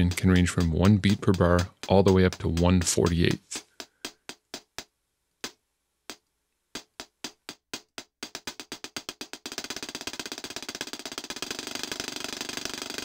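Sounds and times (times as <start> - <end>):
drum machine percussive hits: 0.0 - 6.2, 6.8 - 13.0.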